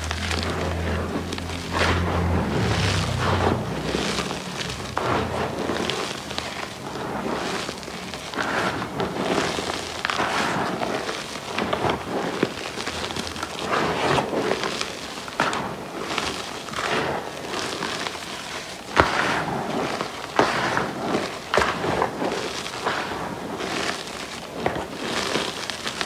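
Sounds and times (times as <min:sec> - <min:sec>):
chalk crunching in hands: 0:00.0 - 0:26.0.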